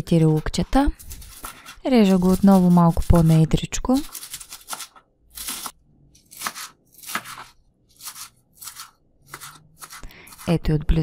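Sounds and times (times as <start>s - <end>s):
knife slicing green onions: 0.2s - 10.6s.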